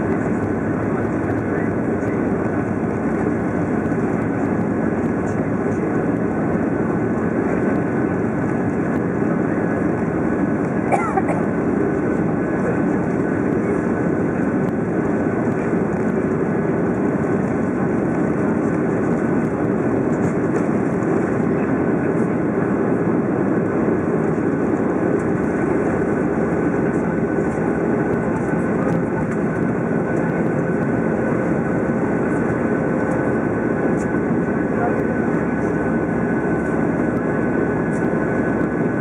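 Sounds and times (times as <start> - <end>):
jet engines roaring in cabin: 0.0 - 39.0.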